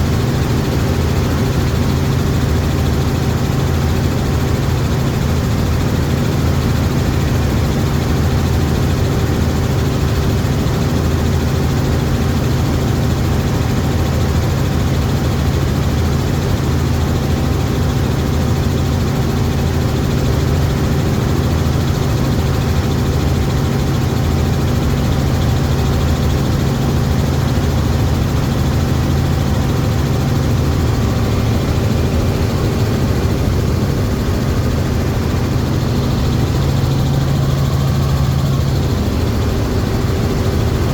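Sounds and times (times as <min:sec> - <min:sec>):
helicopter drone: 0:00.0 - 0:40.9.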